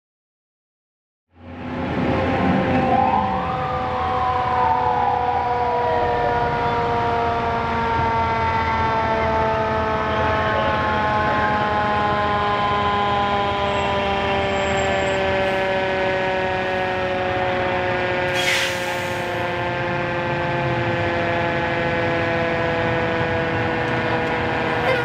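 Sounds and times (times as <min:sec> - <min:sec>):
fire truck siren: 0:01.4 - 0:25.0.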